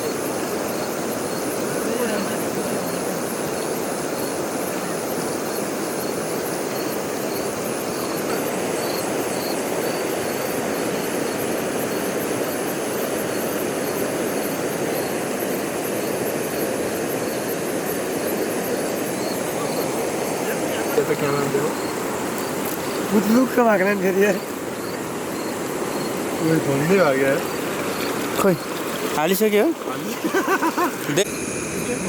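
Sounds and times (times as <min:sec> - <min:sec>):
insects chirping: 0:00.0 - 0:32.0
stream water rushing: 0:00.0 - 0:32.0.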